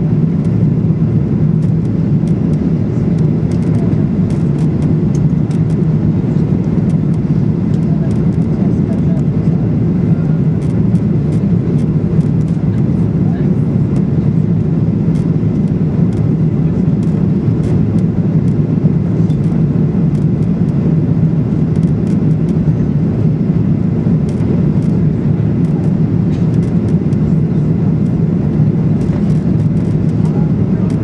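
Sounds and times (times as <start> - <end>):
airplane cabin engine drone: 0.0 - 31.0.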